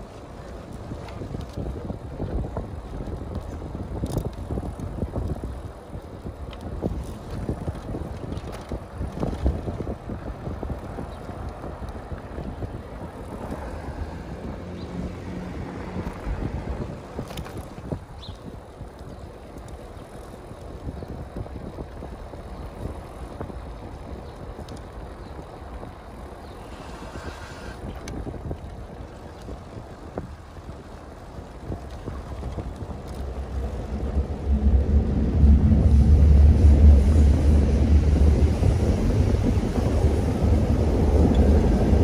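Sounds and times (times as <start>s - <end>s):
bike rattling over bumps: 0.0s - 42.0s
wind rushing over microphone: 0.0s - 42.0s.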